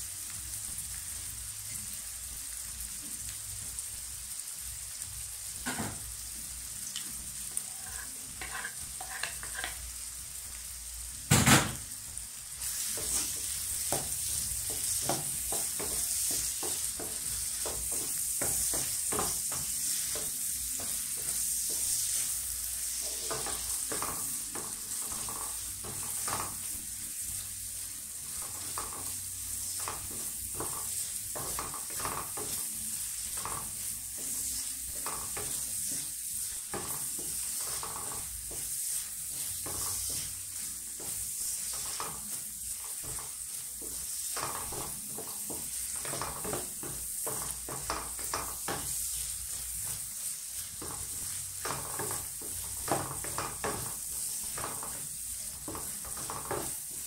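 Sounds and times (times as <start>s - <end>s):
onions sizzling in a wok: 0.0s - 57.0s
wooden spatula scraping a pan: 7.4s - 10.0s, 12.6s - 57.0s.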